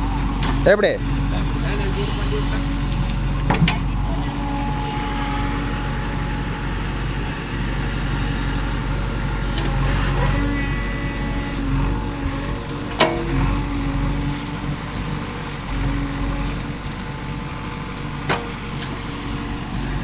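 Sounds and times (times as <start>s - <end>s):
diesel engine running at low speed: 0.0s - 20.0s.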